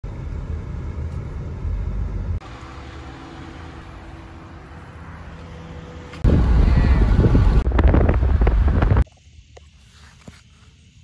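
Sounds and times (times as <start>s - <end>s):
car humming: 0.0s - 9.0s
faint engine tones: 0.0s - 9.0s
loud low rumble: 0.0s - 9.0s.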